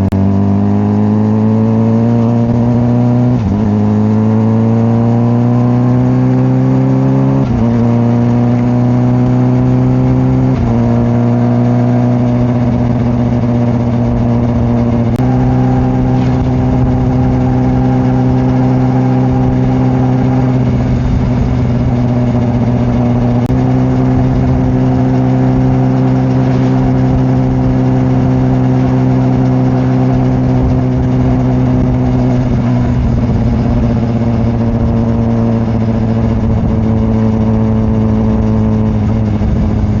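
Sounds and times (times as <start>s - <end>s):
motorcycle engine cruising: 0.0s - 40.0s
wind rumble: 7.3s - 40.0s.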